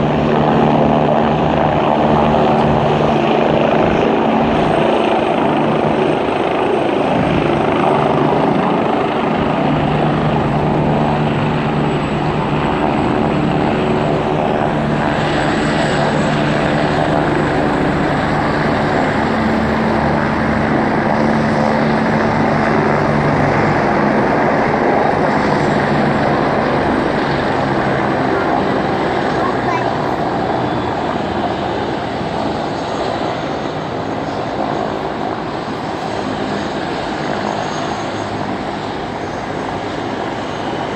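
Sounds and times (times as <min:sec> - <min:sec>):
helicopter rotor and turbine: 0:00.0 - 0:40.9.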